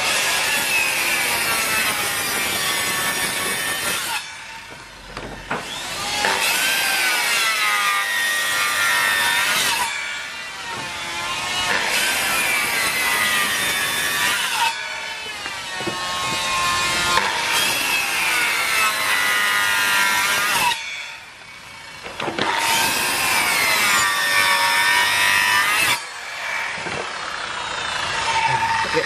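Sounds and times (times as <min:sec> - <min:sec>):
circular saw cutting wood: 0:00.0 - 0:29.0.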